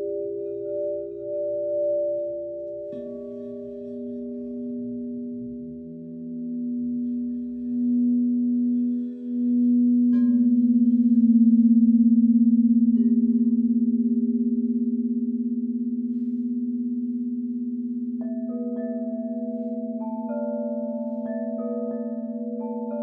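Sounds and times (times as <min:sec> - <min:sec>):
singing bowl struck: 0:00.0 - 0:23.0
singing bowls ringing: 0:00.0 - 0:23.0.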